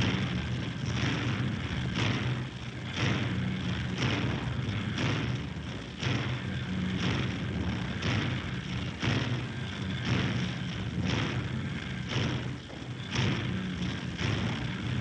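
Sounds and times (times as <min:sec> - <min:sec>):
heavy machinery pounding: 0:00.0 - 0:15.0
low mechanical hum: 0:00.0 - 0:15.0.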